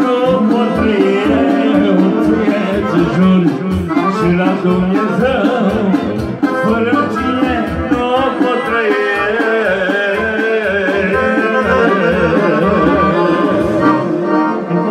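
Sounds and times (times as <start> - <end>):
party song with wavering melody: 0.0 - 14.9.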